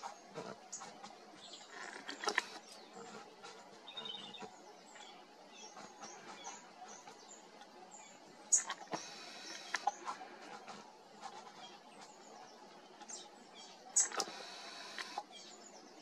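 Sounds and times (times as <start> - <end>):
faint birdsong chirps: 0.0 - 16.0.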